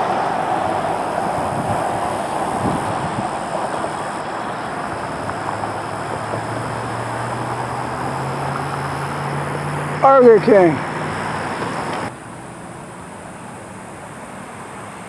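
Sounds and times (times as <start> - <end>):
low engine hum: 0.0 - 15.0
road traffic passing: 0.0 - 15.0.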